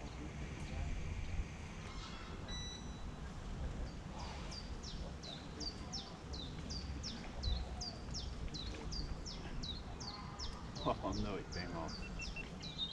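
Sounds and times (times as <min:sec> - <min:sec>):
low wind rumble on microphone: 0:00.0 - 0:10.8.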